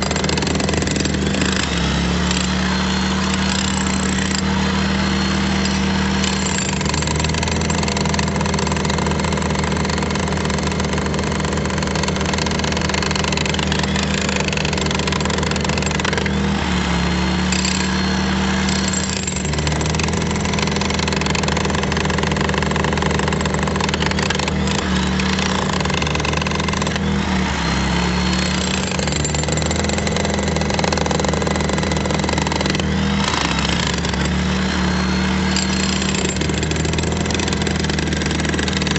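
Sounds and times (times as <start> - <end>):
demolition hammer chiselling concrete: 0.0 - 38.9.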